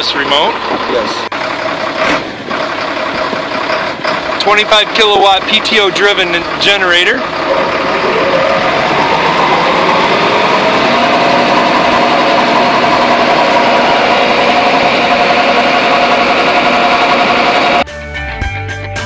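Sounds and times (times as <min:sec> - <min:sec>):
diesel truck engine droning: 0:00.0 - 0:17.8
generator whine: 0:00.0 - 0:17.8.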